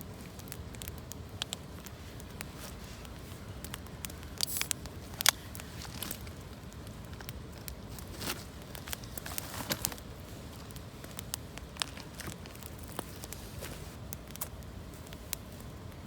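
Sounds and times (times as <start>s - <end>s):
dry twigs and leaves snapping: 0.1s - 16.0s.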